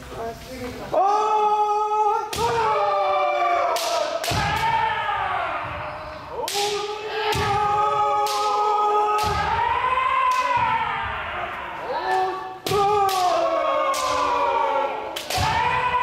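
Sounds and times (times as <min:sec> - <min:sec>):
people shouting: 0:01.0 - 0:16.0.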